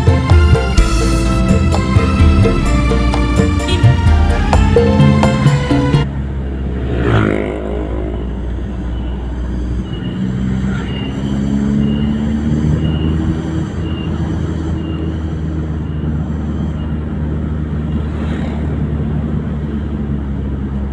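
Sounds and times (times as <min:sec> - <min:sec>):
vehicle engine rumble: 0:00.0 - 0:20.9.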